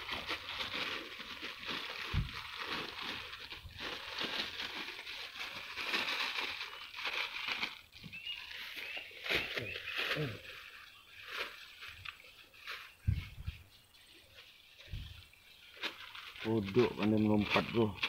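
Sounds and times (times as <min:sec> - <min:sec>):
undergrowth rustling and crackling: 0:00.0 - 0:18.0.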